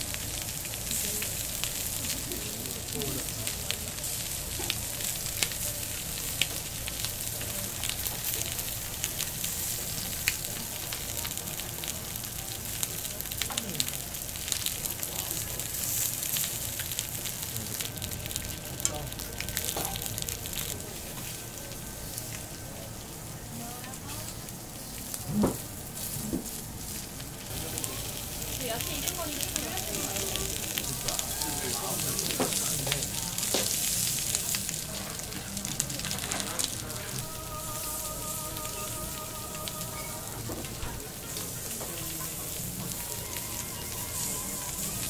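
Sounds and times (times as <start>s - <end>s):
meat sizzling on a grill pan: 0.0s - 45.0s.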